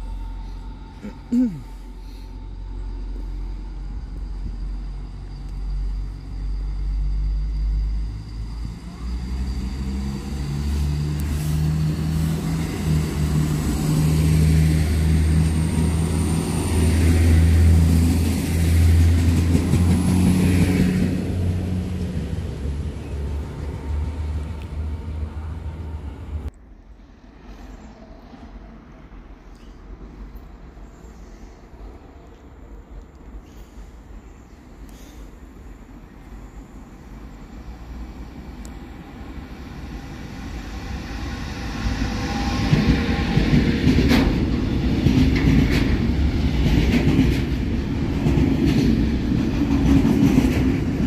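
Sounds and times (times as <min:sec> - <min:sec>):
diesel train engines humming: 0:00.0 - 0:26.5, 0:30.3 - 0:51.0
wheel and rail noise: 0:02.2 - 0:51.0.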